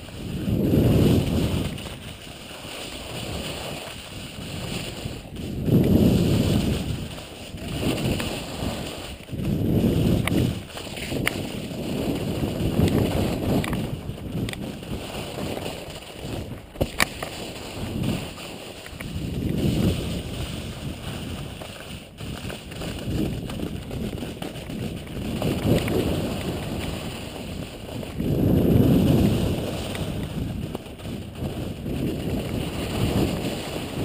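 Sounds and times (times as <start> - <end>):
skis sliding on snow: 0.0 - 34.0
wind buffeting microphone: 0.0 - 34.0.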